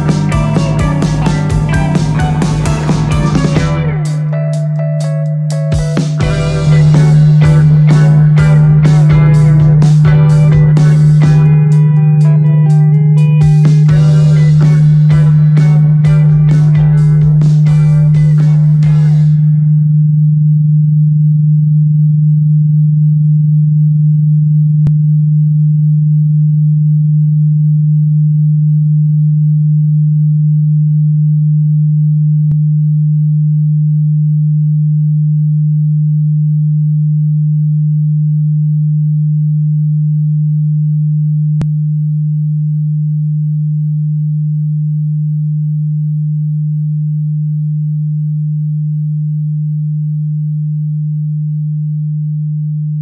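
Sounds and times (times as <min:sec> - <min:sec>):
low electronic sine tone: 0:00.0 - 0:53.0.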